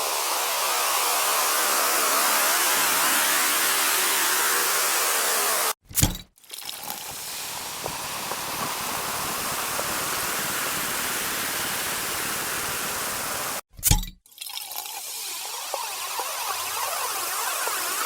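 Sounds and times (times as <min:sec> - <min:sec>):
steady rushing hiss: 0:00.0 - 0:05.8, 0:06.8 - 0:13.6, 0:15.1 - 0:18.0.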